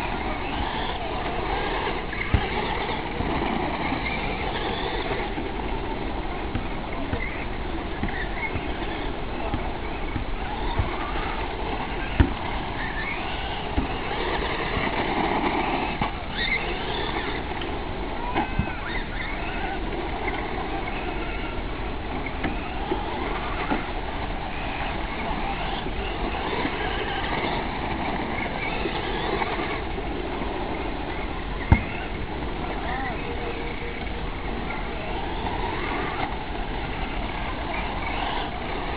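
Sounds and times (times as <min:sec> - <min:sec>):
steady background noise: 0:00.0 - 0:38.9.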